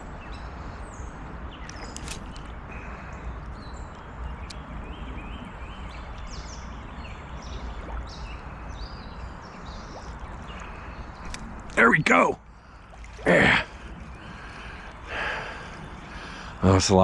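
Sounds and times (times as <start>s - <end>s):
birds chirping: 0.0s - 17.0s
creek water running: 0.0s - 17.0s.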